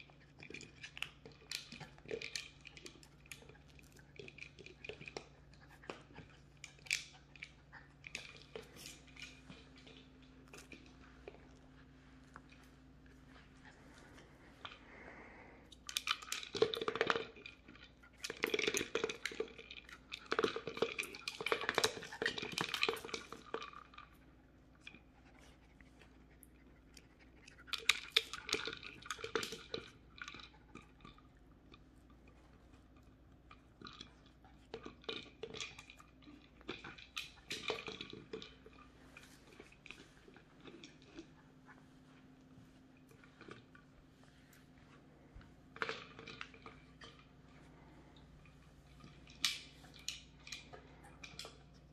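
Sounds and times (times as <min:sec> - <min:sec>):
puppies crunching dry treats: 0:00.0 - 0:51.9.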